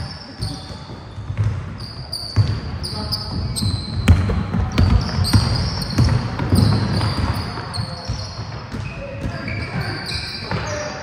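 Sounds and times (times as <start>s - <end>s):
basketballs bouncing on court: 0.0s - 11.0s
shoe squeaks: 0.0s - 11.0s.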